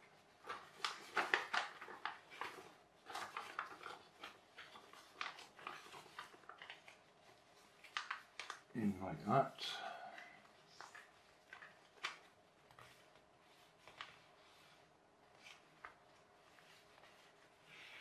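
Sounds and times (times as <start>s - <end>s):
paper crackling and rustling: 0.0s - 8.8s, 10.2s - 18.0s.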